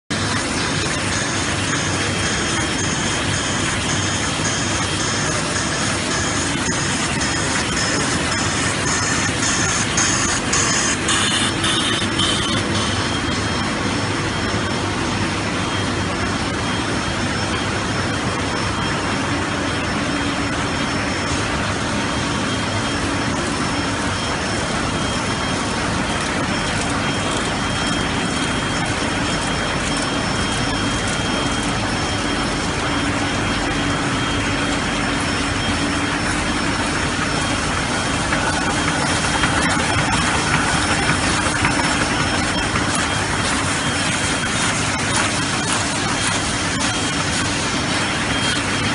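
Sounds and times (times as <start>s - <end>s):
printing press running: 0.1s - 48.9s.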